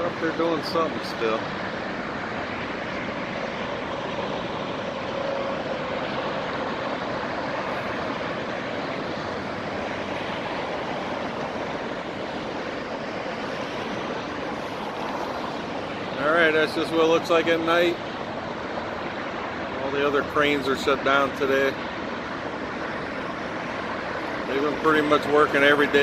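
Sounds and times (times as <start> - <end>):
distant freeway traffic: 0.0 - 26.0.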